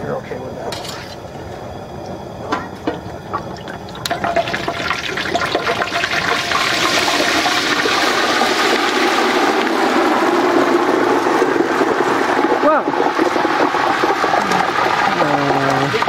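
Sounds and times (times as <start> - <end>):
hot oil crackling sizzle: 2.7 - 16.0.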